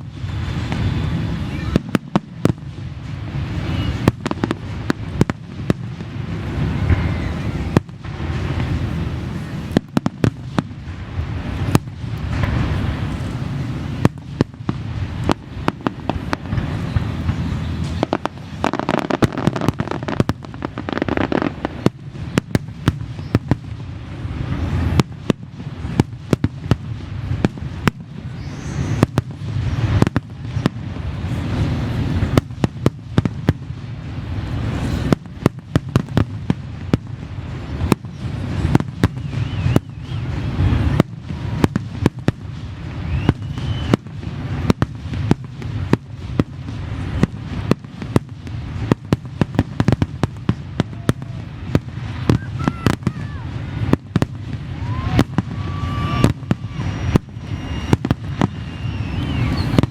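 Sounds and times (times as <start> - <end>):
fireworks bursts and crackling: 0.0 - 59.9
low rumbling echo: 0.0 - 59.9.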